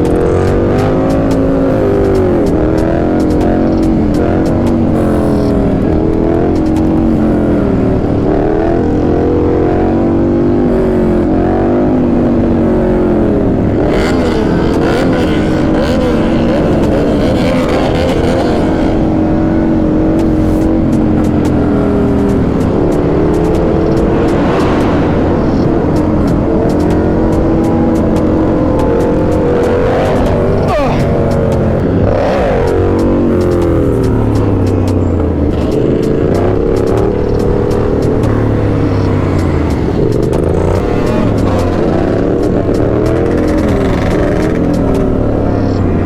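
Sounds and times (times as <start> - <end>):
motorcycle engine running: 0.0 - 46.0
road and wind noise: 0.0 - 46.0.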